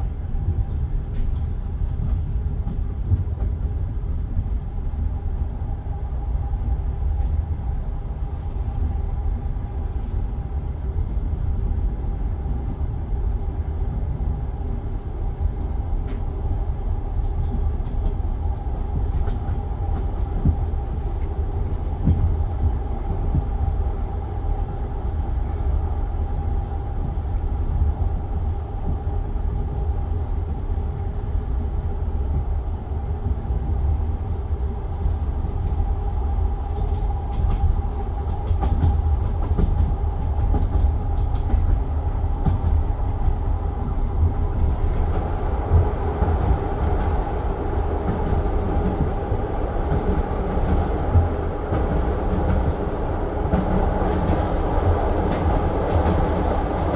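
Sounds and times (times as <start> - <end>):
train carriage rumble: 0.0 - 56.9.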